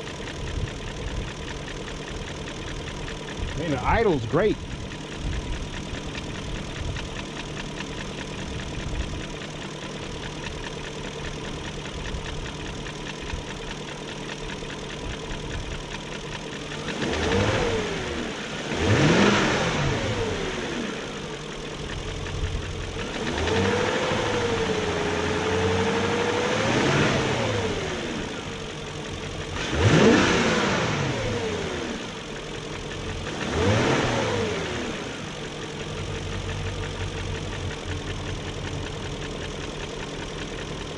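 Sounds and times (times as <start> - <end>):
engine revving: 0.0 - 13.2, 13.9 - 40.9
car engine idling: 0.0 - 40.9.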